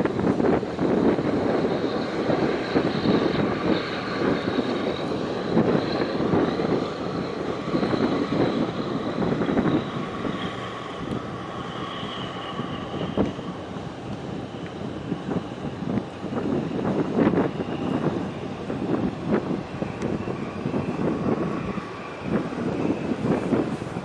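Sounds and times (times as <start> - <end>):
low engine drone: 0.0 - 24.0
wind buffeting microphone: 0.0 - 24.0.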